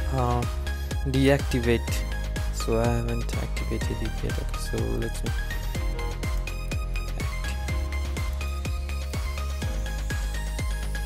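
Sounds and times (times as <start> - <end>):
deep bass: 0.0 - 11.0
electronic music: 0.0 - 11.0
kick drum: 1.9 - 11.0.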